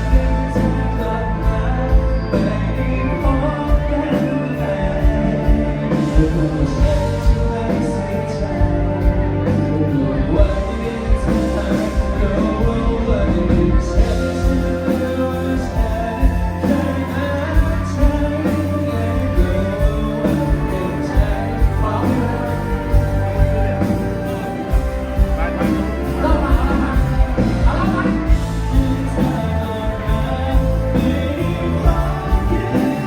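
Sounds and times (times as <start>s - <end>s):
live band music: 0.0s - 33.0s
person singing: 0.0s - 33.0s.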